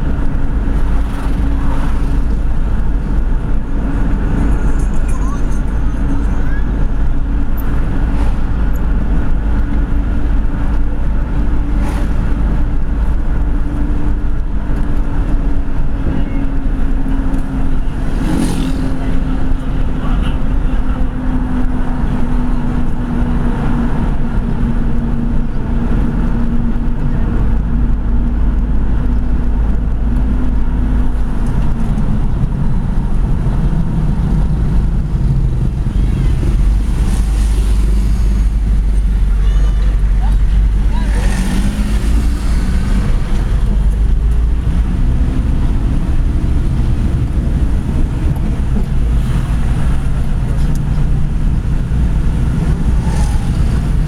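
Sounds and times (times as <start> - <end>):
car engine drone: 0.0 - 54.0
road noise rumble: 0.0 - 54.0.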